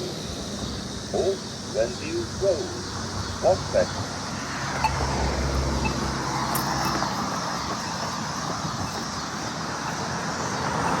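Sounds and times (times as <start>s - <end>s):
passing traffic noise: 0.0s - 11.0s
vehicle engine rumble: 0.0s - 11.0s.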